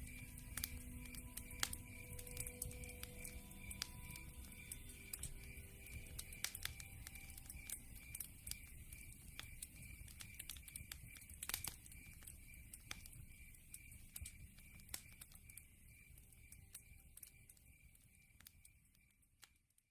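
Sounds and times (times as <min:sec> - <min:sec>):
wood fire crackling in fireplace: 0:00.0 - 0:19.9.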